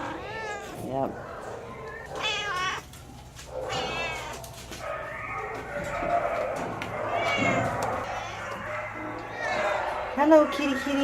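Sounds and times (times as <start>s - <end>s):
cats meowing: 0.0s - 11.0s.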